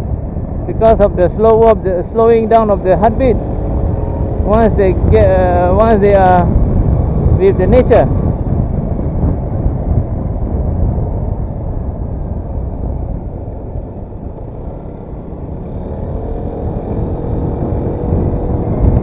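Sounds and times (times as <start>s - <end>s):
road noise: 0.0s - 19.0s
scooter engine hum: 0.0s - 19.0s
wind rush on microphone: 0.0s - 19.0s.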